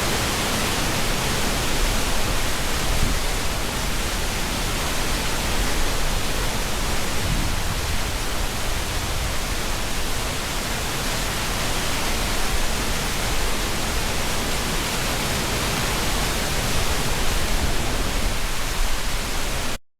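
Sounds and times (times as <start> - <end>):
river rushing over rocks: 0.0 - 19.8.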